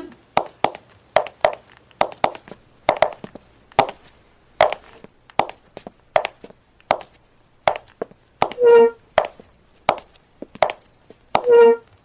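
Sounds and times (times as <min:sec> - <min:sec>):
footsteps on hard floor: 0:00.4 - 0:11.9.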